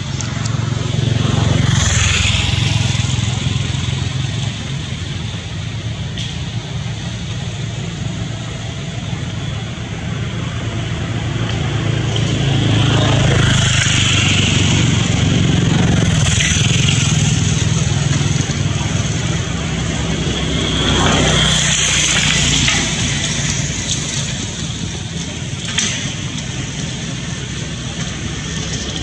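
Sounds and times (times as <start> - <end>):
motor engine running: 0.0 - 29.0.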